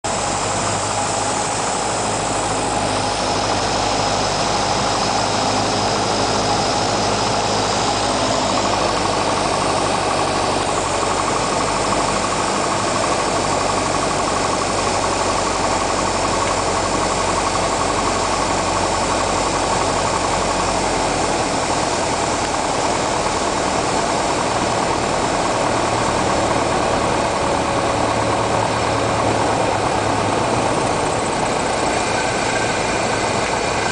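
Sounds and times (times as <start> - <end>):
piston aircraft engine running: 0.0 - 33.9.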